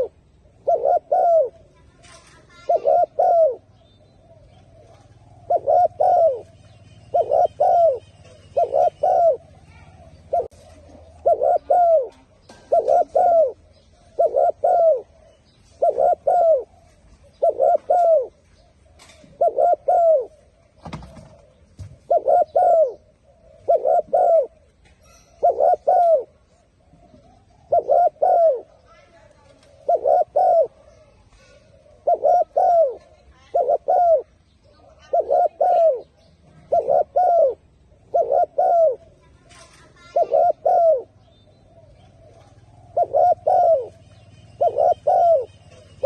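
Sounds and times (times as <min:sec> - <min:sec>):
dove cooing: 0:00.0 - 0:46.0.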